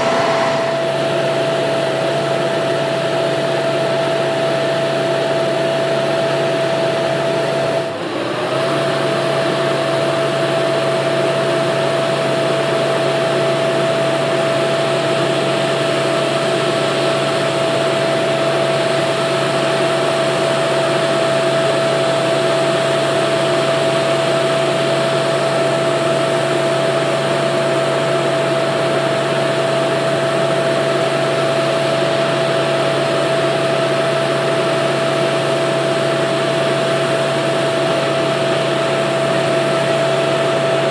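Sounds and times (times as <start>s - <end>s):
engine drone with high whine: 0.0s - 40.9s.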